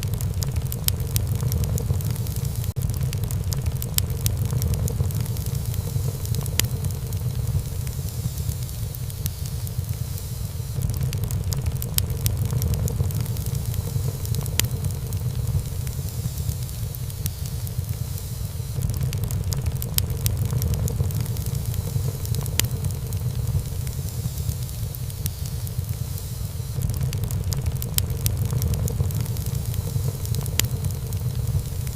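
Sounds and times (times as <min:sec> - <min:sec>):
burning wood popping: 0:00.0 - 0:31.9
low rumble of flames: 0:00.0 - 0:31.9
wood fire crackling: 0:00.0 - 0:31.9.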